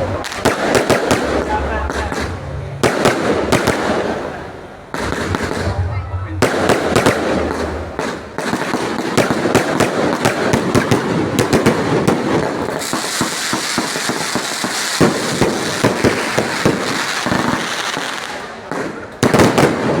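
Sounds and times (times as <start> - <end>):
fireworks bangs and crackling pops: 0.0 - 5.8, 6.4 - 20.0.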